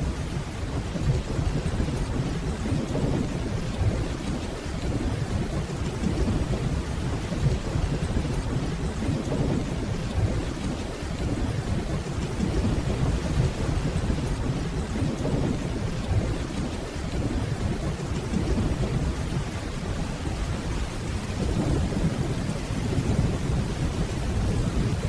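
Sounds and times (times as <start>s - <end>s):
distant rolling thunder: 0.0s - 25.0s
heavy rainfall: 0.0s - 25.0s.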